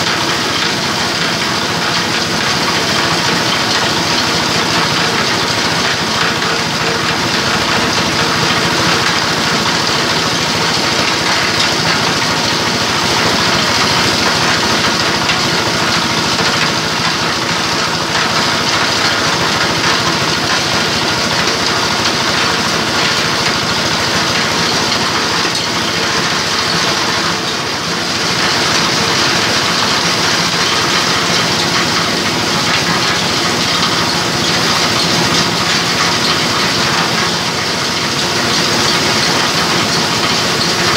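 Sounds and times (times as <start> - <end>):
mill grinding hiss: 0.0 - 40.9.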